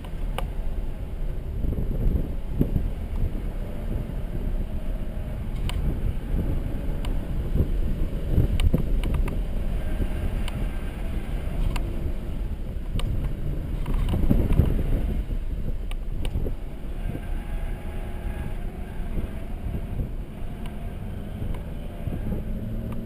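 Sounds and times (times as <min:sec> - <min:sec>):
car engine under load: 0:00.0 - 0:23.0
road and tyre noise: 0:00.0 - 0:23.0.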